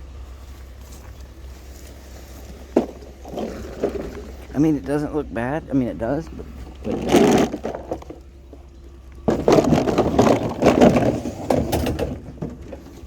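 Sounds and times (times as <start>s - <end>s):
low steady rumble: 0.0s - 13.0s
wagon scraping and rattling: 0.0s - 13.0s.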